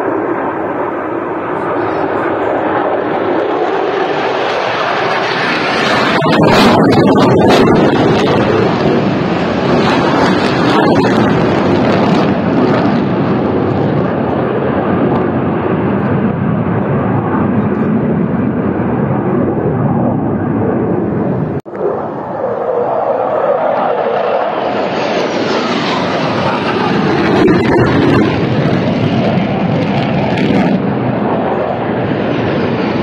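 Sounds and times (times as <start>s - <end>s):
fighter jet flying over: 0.0s - 33.0s.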